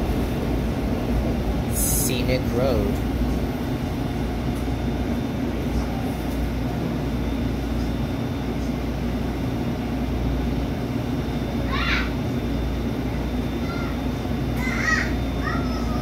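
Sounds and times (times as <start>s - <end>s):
trolley interior hum: 0.0s - 16.0s.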